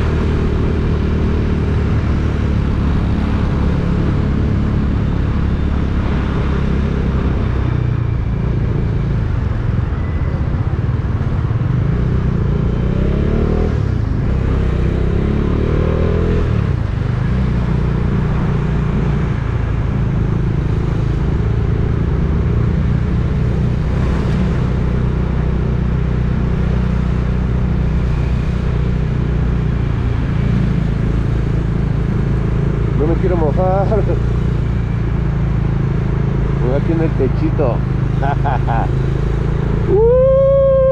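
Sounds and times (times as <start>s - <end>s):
road noise: 0.0s - 40.9s
vehicle engine humming: 0.0s - 40.9s.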